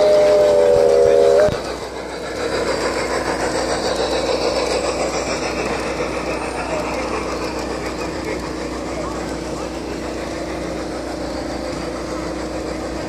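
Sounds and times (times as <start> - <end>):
model train wheels rolling: 0.0 - 13.0
voices chattering: 0.0 - 13.0.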